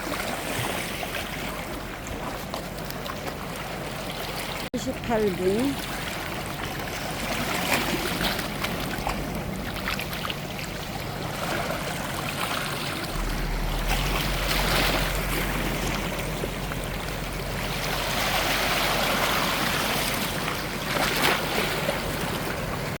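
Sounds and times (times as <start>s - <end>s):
sharp water splashes: 0.0s - 23.0s
waves washing over stones: 0.0s - 23.0s.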